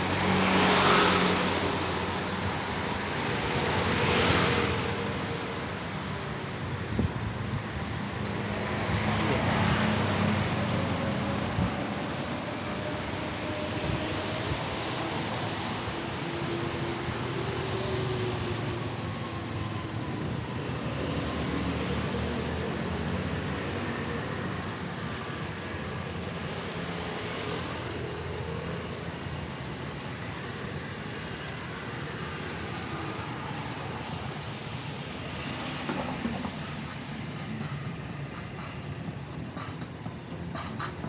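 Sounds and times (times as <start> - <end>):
vehicle engines passing: 0.0 - 41.0.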